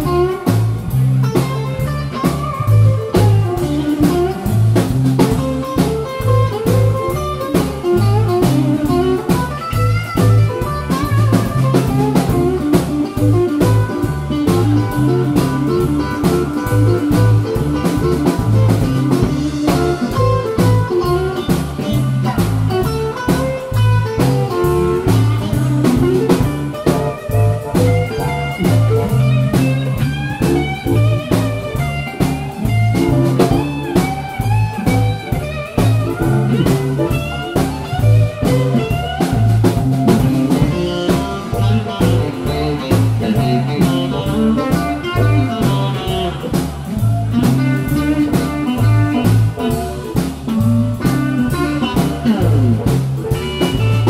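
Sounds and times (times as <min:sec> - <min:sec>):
blues band playing: 0:00.0 - 0:54.0
electric guitar lead line: 0:00.0 - 0:54.0.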